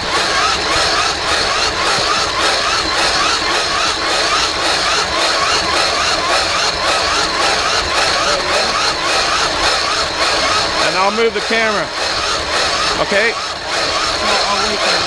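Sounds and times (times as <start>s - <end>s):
wavering whine: 0.0s - 15.0s
wood fire roaring in firebox: 0.0s - 15.0s.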